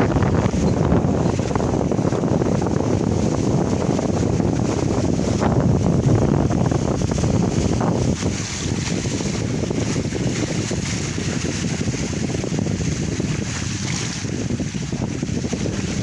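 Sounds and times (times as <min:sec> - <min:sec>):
water rushing past hulls: 0:00.0 - 0:16.0
wind buffeting the microphone: 0:00.0 - 0:16.0.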